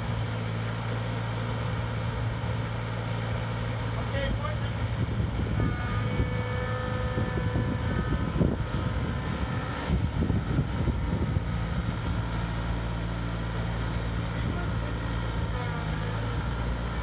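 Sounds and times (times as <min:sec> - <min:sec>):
tractor engine idling: 0:00.0 - 0:06.0, 0:07.9 - 0:17.0.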